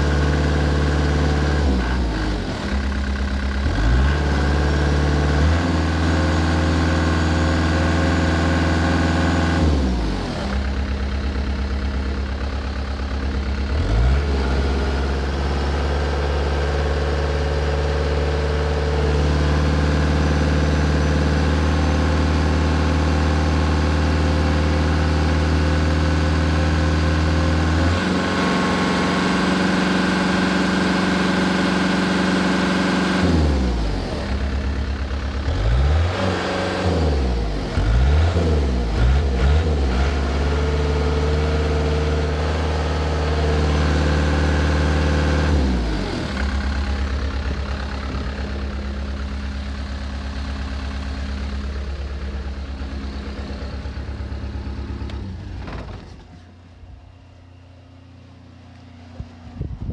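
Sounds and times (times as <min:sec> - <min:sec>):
diesel engine revving up and down: 0:00.0 - 0:59.9.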